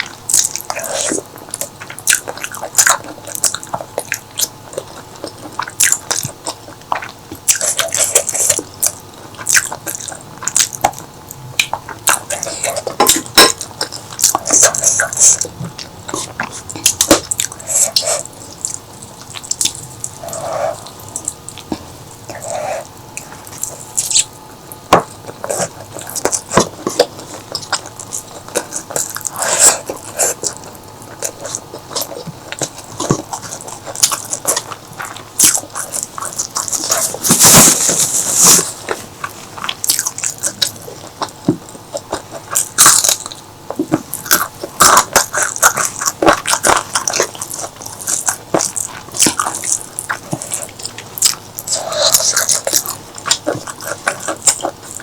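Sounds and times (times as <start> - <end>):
wet chewing and biting: 0.0 - 55.0.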